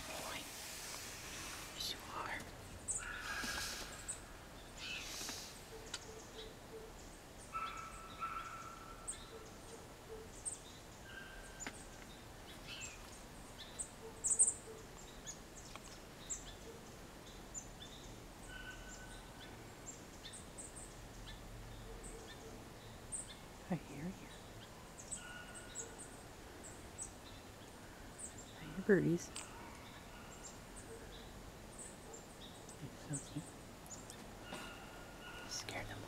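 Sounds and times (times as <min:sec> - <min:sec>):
songbirds chirping: 0:00.0 - 0:36.0.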